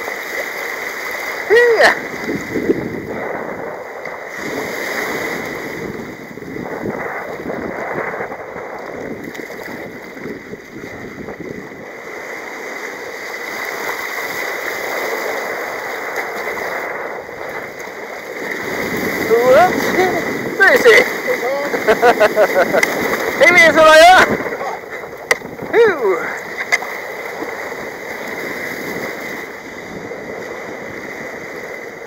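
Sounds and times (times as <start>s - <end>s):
sea waves sloshing around kayak: 0.0s - 32.0s.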